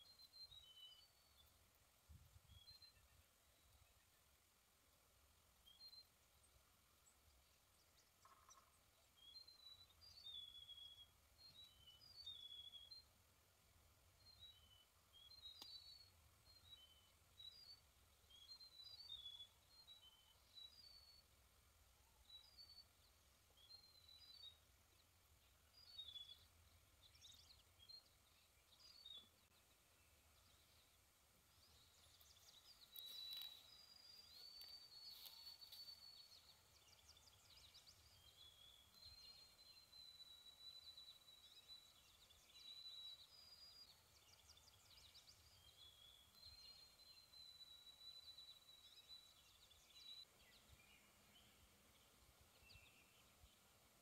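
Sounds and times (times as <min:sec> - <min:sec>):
faint songbirds calling: 0:00.0 - 0:54.0.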